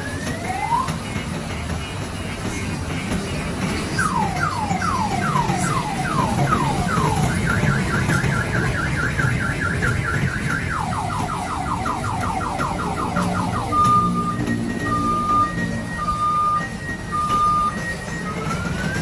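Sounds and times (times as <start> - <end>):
car alarm siren: 0.0 - 1.3, 3.8 - 19.0.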